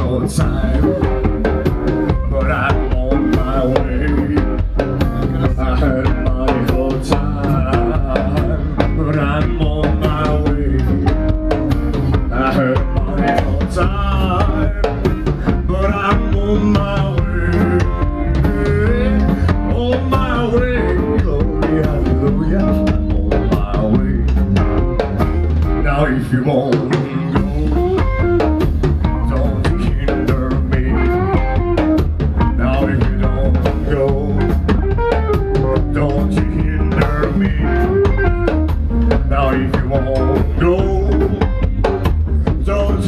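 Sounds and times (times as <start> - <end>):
man singing: 0.0 - 24.8, 25.6 - 43.0
drum kit steady beat: 0.0 - 43.0
guitar: 0.0 - 43.0.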